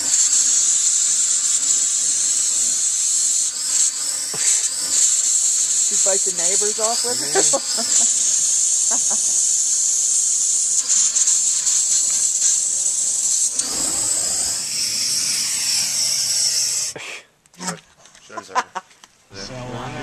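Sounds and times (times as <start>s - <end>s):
propane torch flame hissing: 0.0s - 17.0s.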